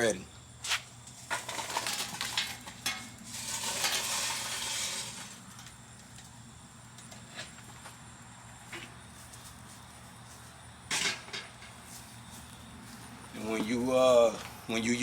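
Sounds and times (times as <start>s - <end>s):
coals rattling and hissing: 0.0s - 15.0s.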